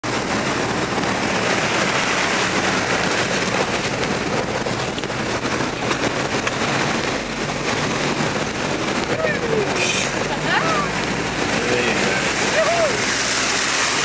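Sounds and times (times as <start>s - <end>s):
vehicle engine running: 0.0s - 14.0s
water splashing: 0.0s - 14.0s.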